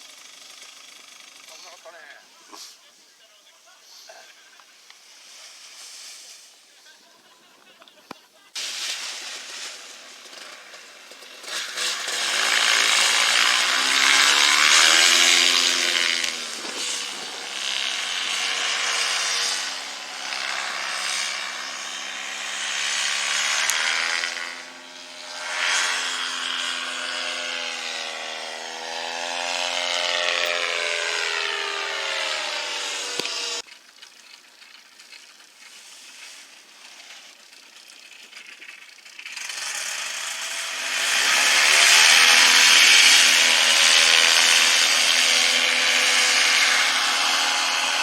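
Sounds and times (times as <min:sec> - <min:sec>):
small engine droning: 0:00.0 - 0:02.8, 0:08.6 - 0:48.0.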